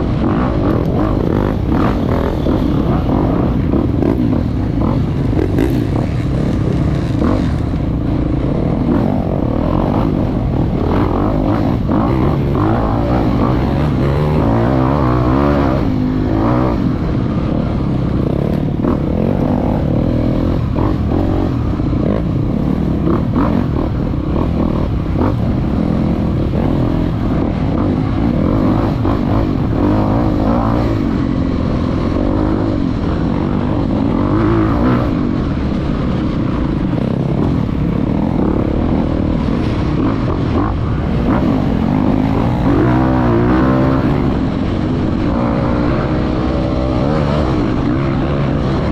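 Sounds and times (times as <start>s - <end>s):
dirt bike engine revving: 0.0s - 36.3s, 36.9s - 48.9s.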